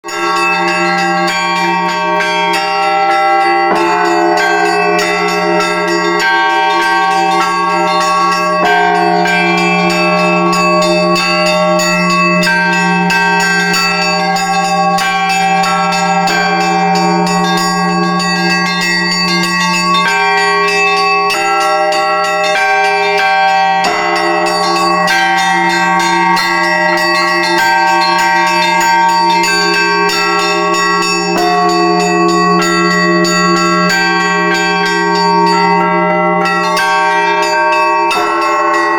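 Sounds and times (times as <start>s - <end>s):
deep bell humming: 0.0s - 38.9s
small high bells struck: 0.0s - 38.9s.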